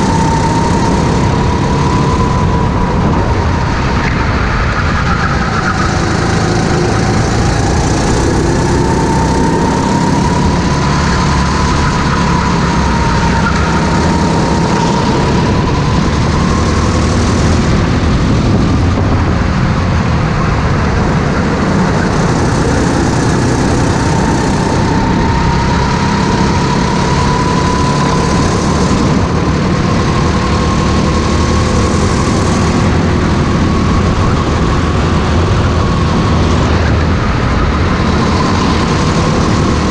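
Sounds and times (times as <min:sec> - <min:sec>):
go-kart engine running: 0:00.0 - 0:39.9
wind noise: 0:00.0 - 0:39.9.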